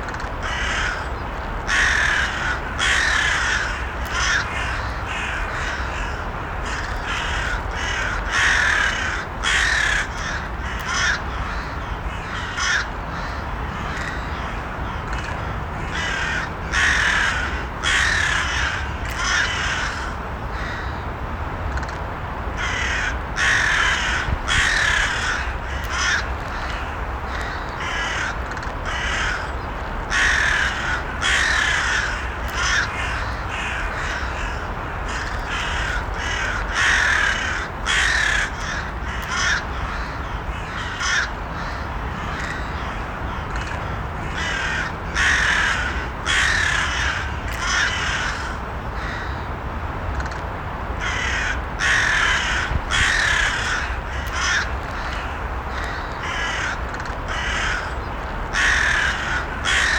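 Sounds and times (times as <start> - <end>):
crows cawing: 0.1 - 21.0, 22.6 - 49.5, 51.0 - 59.9.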